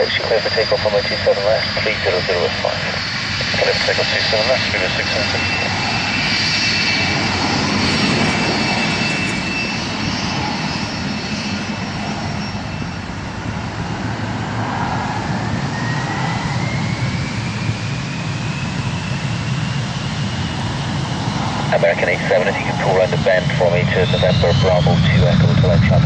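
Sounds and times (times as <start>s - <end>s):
jet engines running at high power: 0.0s - 26.0s
thin rising engine whine: 1.1s - 25.6s.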